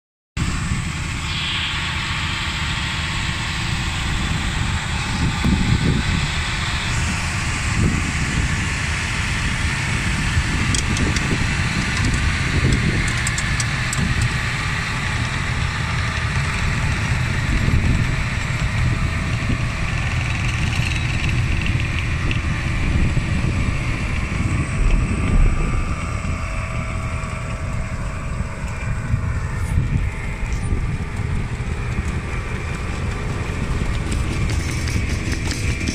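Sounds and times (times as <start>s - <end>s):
tractor diesel engine under load: 0.4s - 35.9s.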